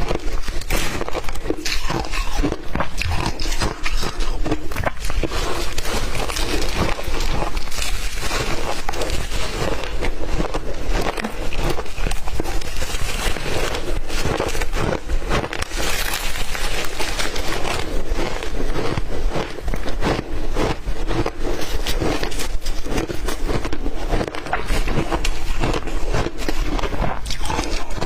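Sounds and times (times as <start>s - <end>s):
ice crunching between teeth: 0.0s - 28.0s.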